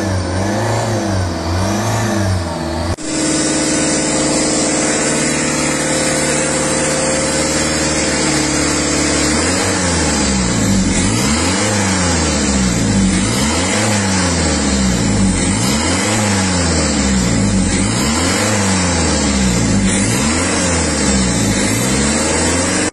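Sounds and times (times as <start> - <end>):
diesel engine revving: 0.0 - 22.9.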